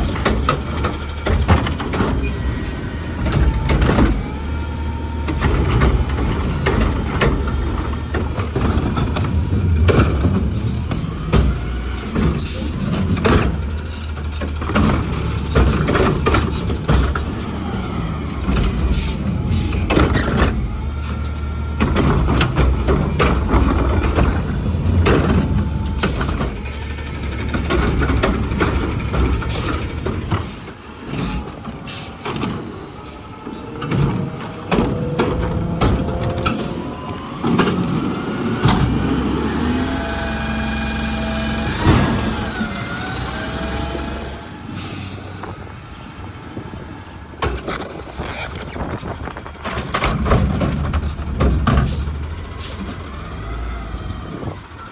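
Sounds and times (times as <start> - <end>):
sharp clanks and knocks: 0.0 - 17.5, 18.4 - 32.7, 33.4 - 40.1, 47.4 - 53.3
garbage truck engine running: 0.0 - 54.9.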